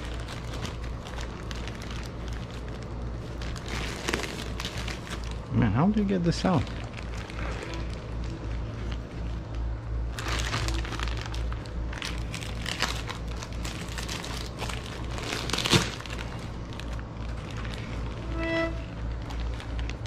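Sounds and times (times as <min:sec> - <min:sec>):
plastic wrapping crinkling: 0:00.0 - 0:20.0
steady low hum: 0:00.0 - 0:20.0.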